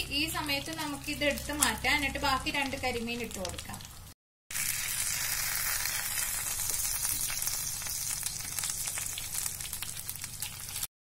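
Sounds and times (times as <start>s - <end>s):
hot oil sizzling and crackling: 0.0s - 10.9s.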